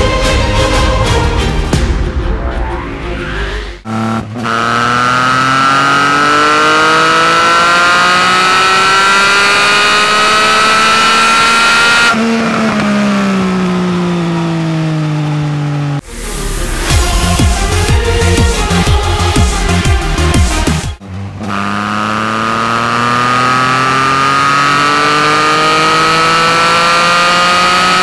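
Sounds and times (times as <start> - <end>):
motorcycle engine accelerating: 2.7 - 28.0.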